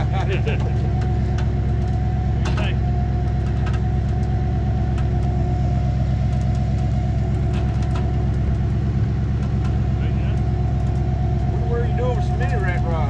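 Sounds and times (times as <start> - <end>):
steady hum: 0.0 - 13.0
truck engine idling: 0.0 - 13.0.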